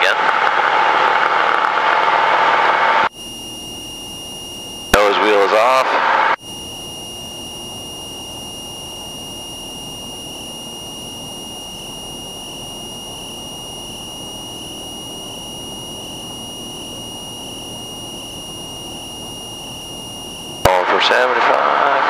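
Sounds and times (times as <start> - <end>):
steady high whine: 0.0 - 22.0
small plane engine and propeller drone: 3.1 - 22.0.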